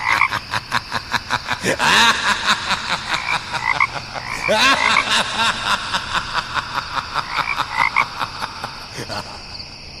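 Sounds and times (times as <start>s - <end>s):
frogs croaking: 0.0s - 10.0s.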